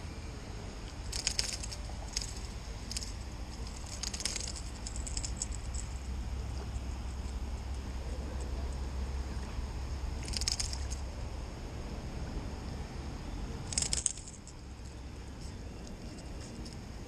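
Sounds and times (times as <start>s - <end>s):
crackling rustles: 0.8s - 11.2s, 13.6s - 17.0s.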